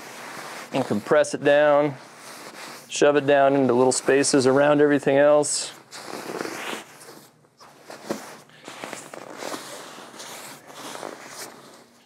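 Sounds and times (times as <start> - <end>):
fabric rustling and swishing: 0.0 - 5.0, 5.6 - 12.0.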